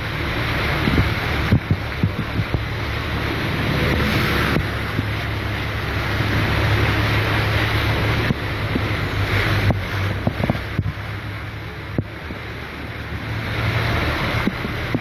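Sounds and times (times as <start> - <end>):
heavy rain: 0.0 - 15.0
low steady hum: 0.0 - 15.0
vehicles splashing through floodwater: 0.0 - 15.0.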